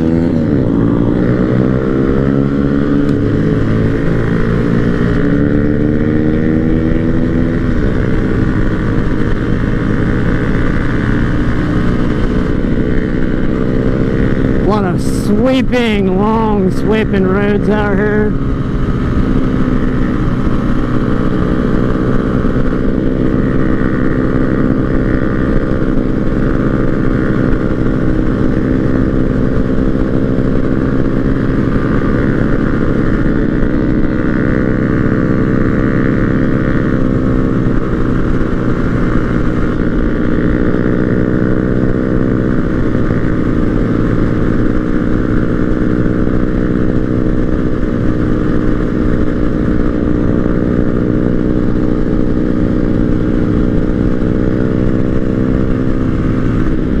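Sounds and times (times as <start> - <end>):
low wind rumble: 0.0 - 57.0
motorcycle engine running: 0.0 - 57.0.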